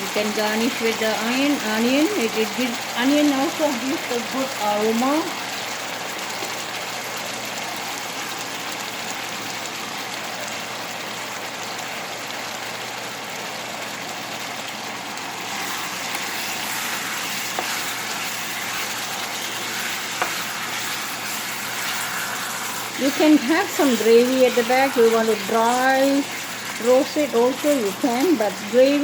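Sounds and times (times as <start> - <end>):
chicken sizzling in a pan: 0.0 - 29.0.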